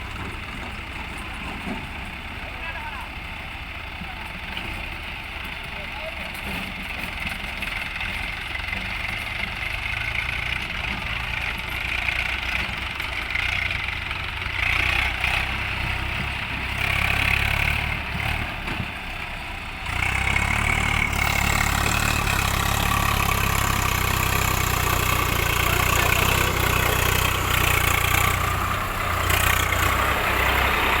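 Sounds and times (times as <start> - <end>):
diesel engines running: 0.0 - 31.0.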